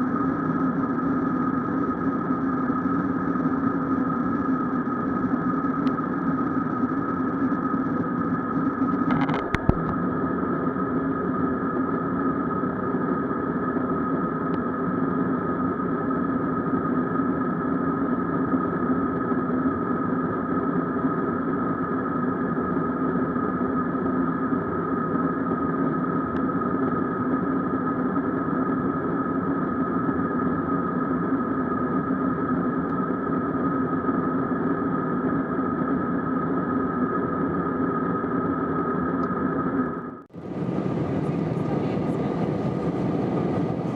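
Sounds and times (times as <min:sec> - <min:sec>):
jet engine noise in cabin: 0:00.0 - 0:43.9.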